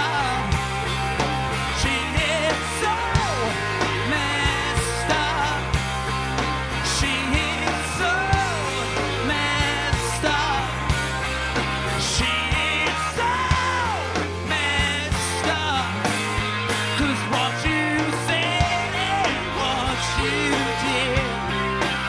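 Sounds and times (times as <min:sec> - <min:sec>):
bass: 0:00.0 - 0:22.0.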